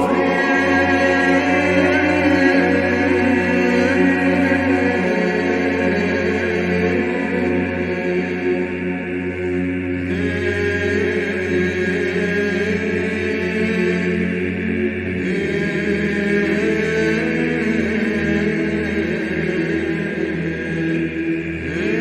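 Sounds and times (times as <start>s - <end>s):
choir chanting melody: 0.0s - 22.0s
low held vocal drone: 0.0s - 22.0s.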